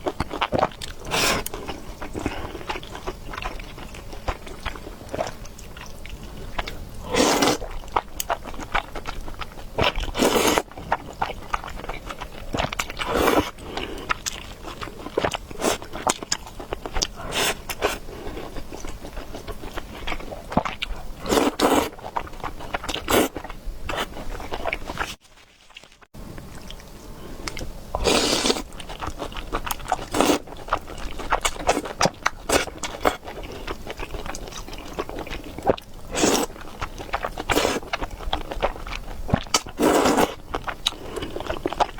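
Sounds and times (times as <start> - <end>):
person chewing noodles: 0.0 - 41.9.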